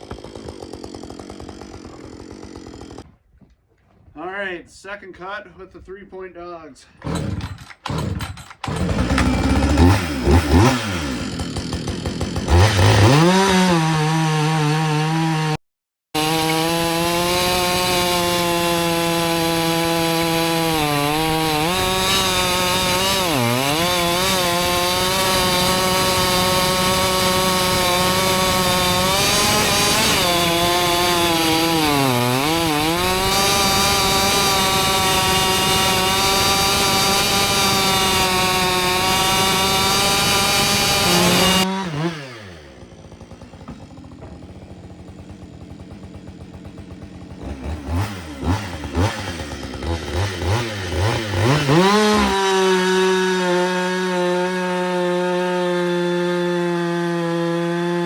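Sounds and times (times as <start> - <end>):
chainsaw cutting log: 0.0 - 3.2, 6.9 - 15.6, 16.2 - 58.0.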